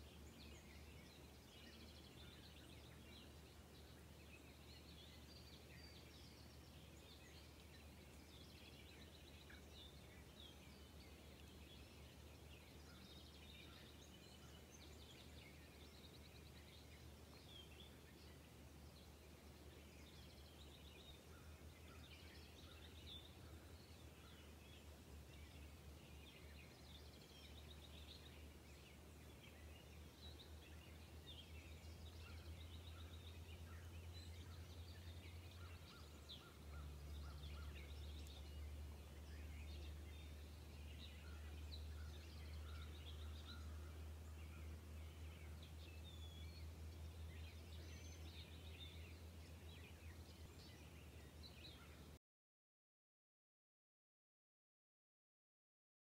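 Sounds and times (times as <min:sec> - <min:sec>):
distant birds chirping: 0:00.0 - 0:52.2.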